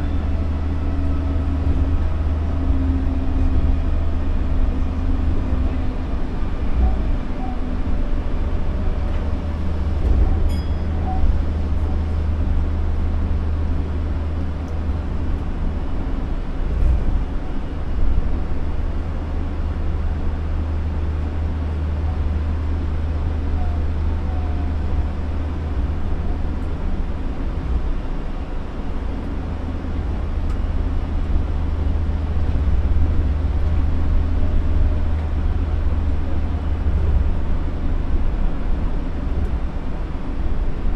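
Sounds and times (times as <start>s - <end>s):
monorail train rumble: 0.0s - 40.9s.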